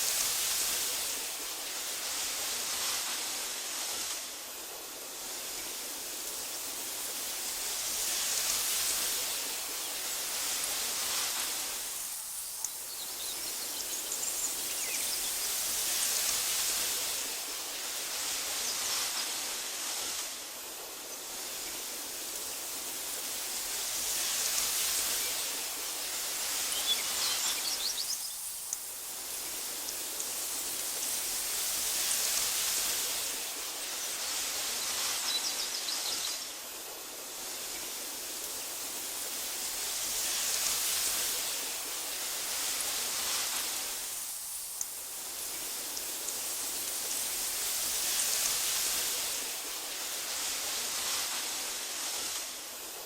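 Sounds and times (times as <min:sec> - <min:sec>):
wind blowing through grass: 0:00.0 - 0:53.0.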